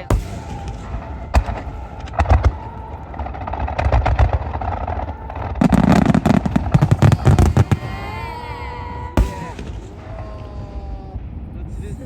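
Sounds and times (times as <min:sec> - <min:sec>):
fireworks bursts and bangs: 0:00.0 - 0:12.0.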